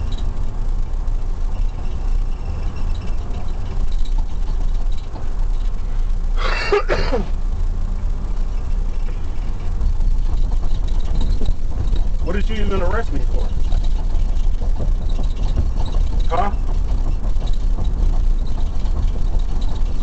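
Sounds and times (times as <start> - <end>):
car engine rumble: 0.0 - 20.0
road noise inside car: 0.0 - 20.0.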